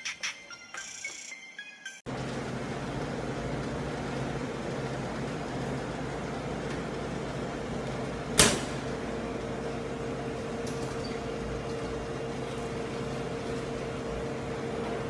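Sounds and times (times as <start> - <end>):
steady machine hum: 2.1 - 15.0.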